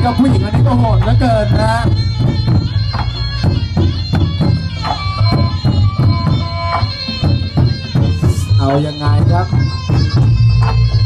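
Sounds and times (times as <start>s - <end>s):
barrel drums rhythm: 0.0s - 11.0s.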